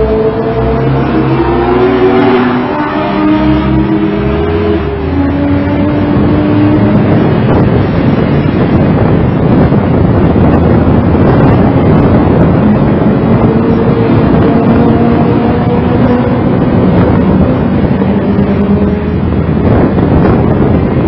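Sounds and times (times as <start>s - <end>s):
car engine at steady throttle: 0.0s - 21.0s
road and wind noise: 0.0s - 21.0s.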